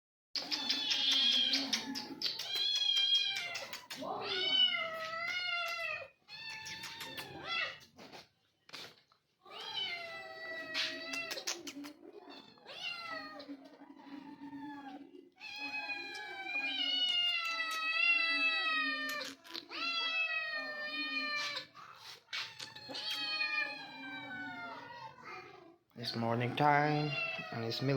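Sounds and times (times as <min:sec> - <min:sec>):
cats meowing: 0:00.4 - 0:08.2, 0:09.4 - 0:27.9.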